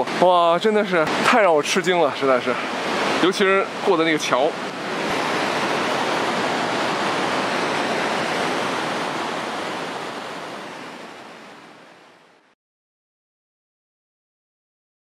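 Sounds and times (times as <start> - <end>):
fast-flowing river water: 0.0 - 12.5.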